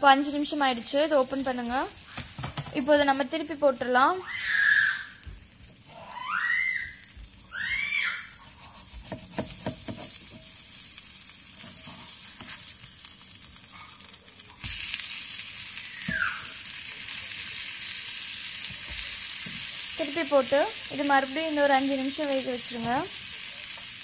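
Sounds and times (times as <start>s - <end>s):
omelettes sizzling in oil: 0.0s - 24.0s.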